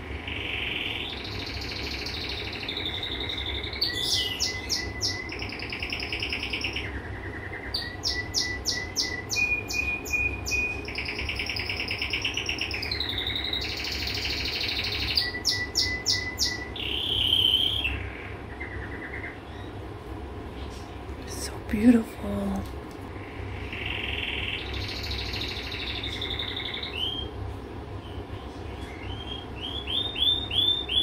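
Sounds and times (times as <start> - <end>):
canary singing: 0.0 - 19.9, 23.2 - 31.0.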